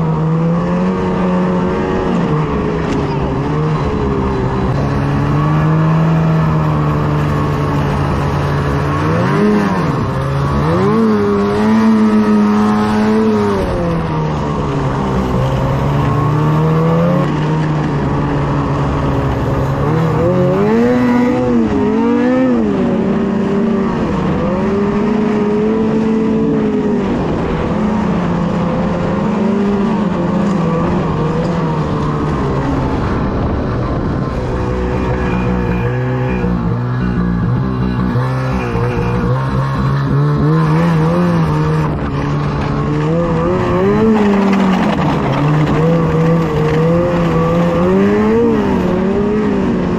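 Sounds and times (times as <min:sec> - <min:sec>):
snowmobile engine revving: 0:00.0 - 0:49.9.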